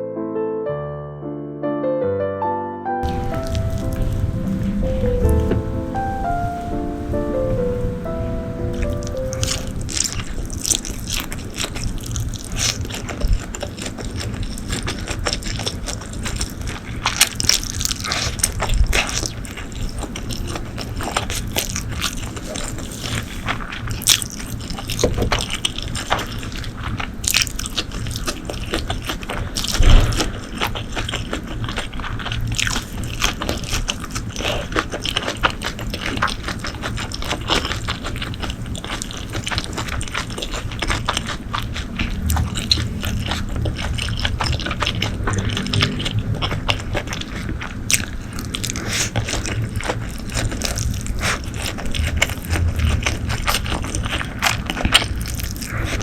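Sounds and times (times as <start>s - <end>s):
person chewing and slurping food: 8.8s - 56.0s.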